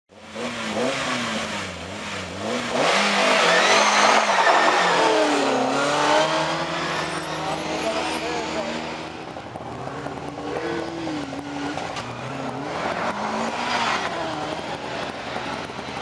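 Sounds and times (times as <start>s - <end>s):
rally car engine revving: 0.1s - 16.0s.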